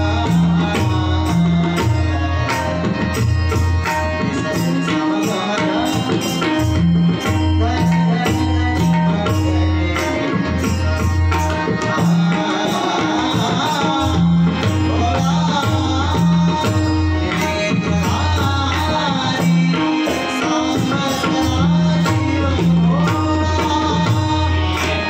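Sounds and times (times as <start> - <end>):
tabla playing a rhythm: 0.0 - 25.0.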